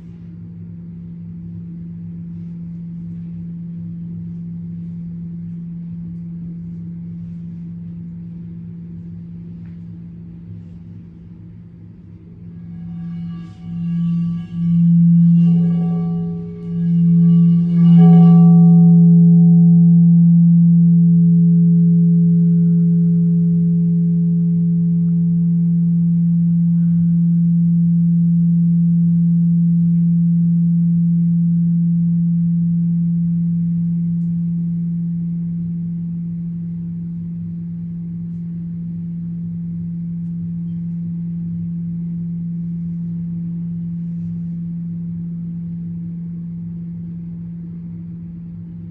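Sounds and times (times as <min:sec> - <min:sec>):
low ringing tone with wobble: 0:00.0 - 0:48.9.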